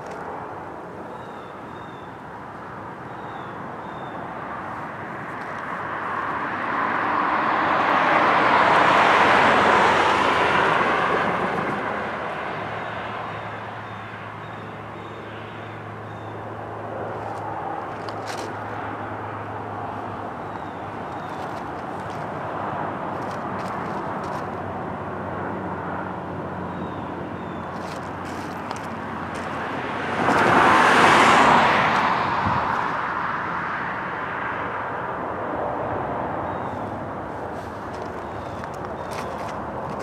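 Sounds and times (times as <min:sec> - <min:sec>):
vehicle passing: 0:04.5 - 0:13.4, 0:16.6 - 0:40.0.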